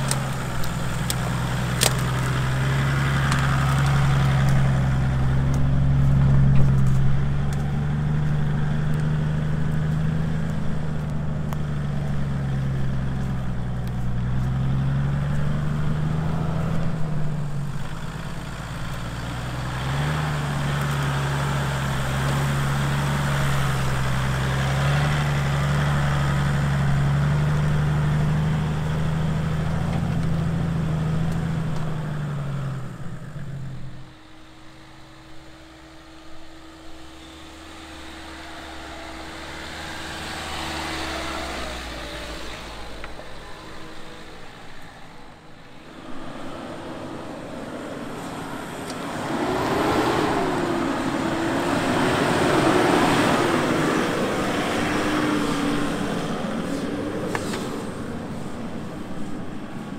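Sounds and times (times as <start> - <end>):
diesel engine running at low revs: 0.0 - 59.9.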